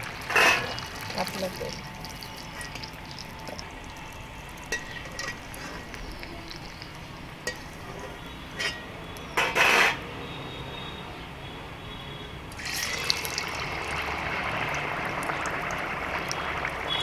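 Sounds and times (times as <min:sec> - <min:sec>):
food frying in hot oil: 0:00.0 - 0:09.4, 0:12.5 - 0:17.0.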